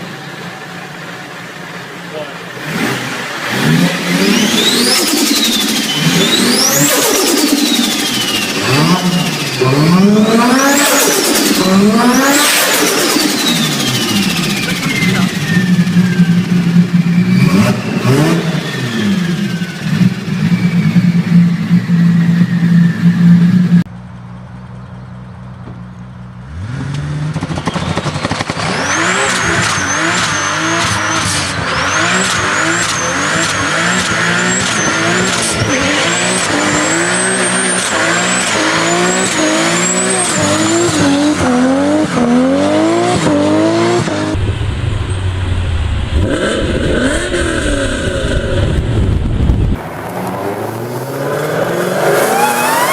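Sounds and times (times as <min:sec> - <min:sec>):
car engine accelerating hard: 0:00.0 - 0:23.9, 0:26.3 - 0:52.9
other engines: 0:00.0 - 0:52.9.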